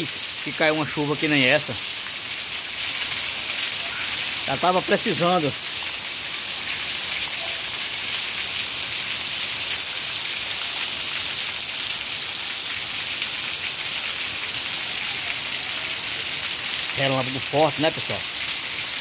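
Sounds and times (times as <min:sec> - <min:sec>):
torrential rain hiss: 0:00.0 - 0:19.0
water pouring off roof edge: 0:00.0 - 0:19.0.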